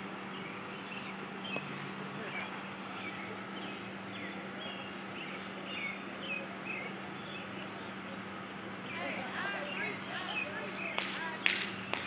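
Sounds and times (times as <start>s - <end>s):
constant low hum: 0.0s - 12.0s
outdoor background hiss: 0.0s - 12.0s
small birds chirping: 0.1s - 12.0s.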